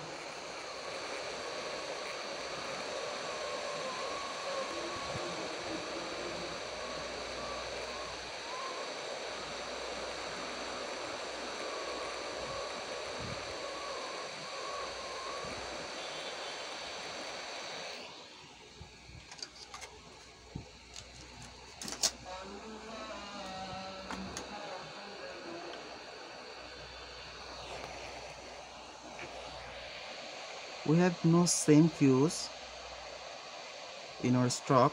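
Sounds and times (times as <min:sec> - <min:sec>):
faint high whine: 0:00.0 - 0:34.9
steady hiss: 0:00.0 - 0:34.9.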